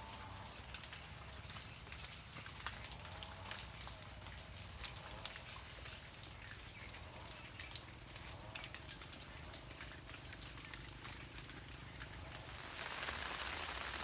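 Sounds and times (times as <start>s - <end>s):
drops ticking on leaves: 0.0s - 14.0s
steady rain: 0.0s - 14.0s.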